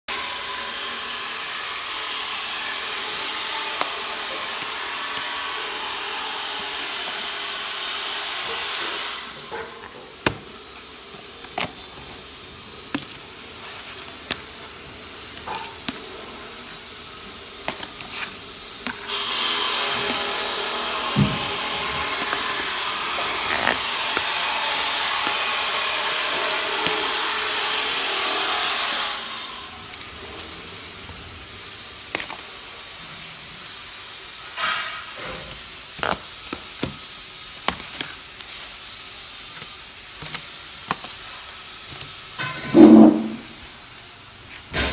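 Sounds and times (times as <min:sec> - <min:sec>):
loud steady hissing: 0:00.1 - 0:44.9.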